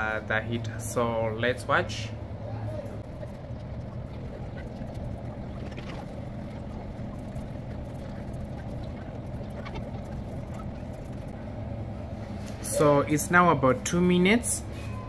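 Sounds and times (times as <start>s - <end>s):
incubator mechanical hum: 0.0s - 15.0s.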